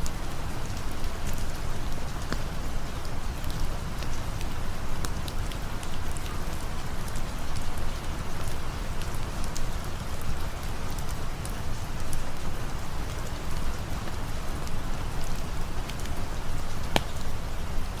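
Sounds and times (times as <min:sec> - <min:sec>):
rain falling: 0:00.0 - 0:18.0
campfire crackling: 0:00.1 - 0:18.0.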